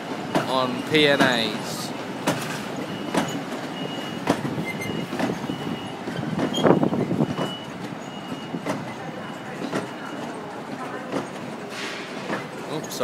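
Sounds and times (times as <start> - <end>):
train wheels knocking on rail joints: 0.0 - 13.0.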